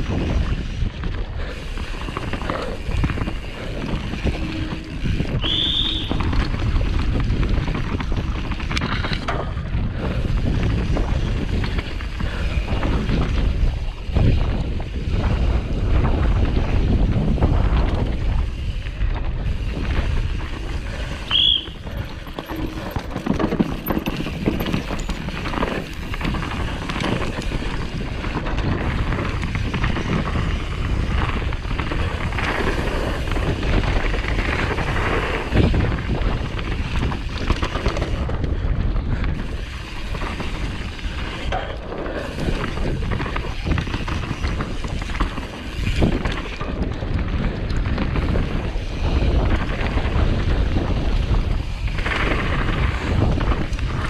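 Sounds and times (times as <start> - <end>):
bike rattling over rocky ground: 0.0 - 54.0
wind buffeting microphone: 0.0 - 54.0.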